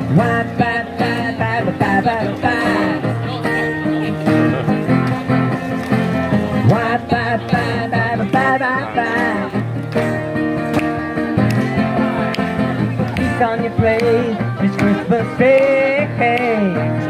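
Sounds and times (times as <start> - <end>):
person singing: 0.0 - 5.4, 6.5 - 17.0
strummed acoustic guitar: 0.0 - 17.0.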